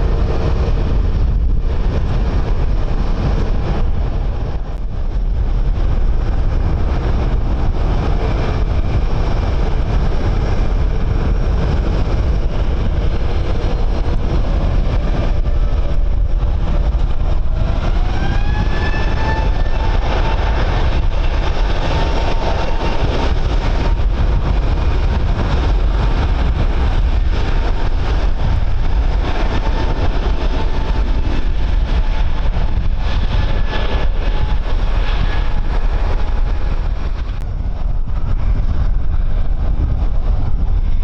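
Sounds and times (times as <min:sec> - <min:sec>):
jet engines whining: 0:00.0 - 0:41.0
wind rumble on microphone: 0:00.0 - 0:41.0.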